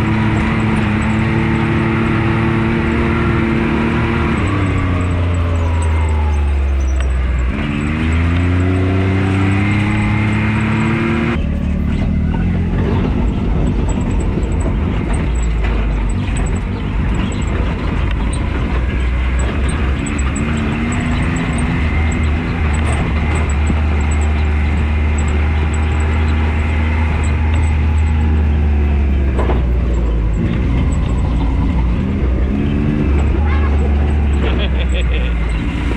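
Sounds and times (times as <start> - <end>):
off-road vehicle engine: 0.0 - 35.9.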